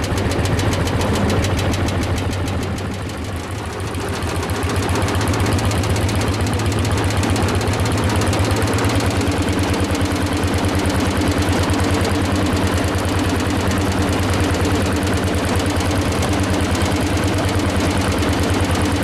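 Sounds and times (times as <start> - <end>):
tractor engine chugging: 0.0 - 19.0.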